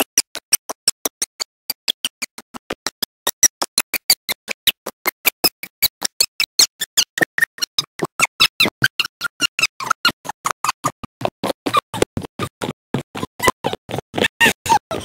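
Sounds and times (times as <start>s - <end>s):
chopped stuttering audio bursts: 0.2s - 15.0s.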